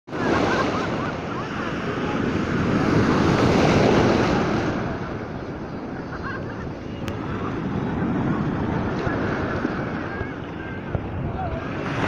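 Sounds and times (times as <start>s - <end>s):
sea waves breaking: 0.1s - 12.0s
surf washing through shallows: 0.1s - 12.0s.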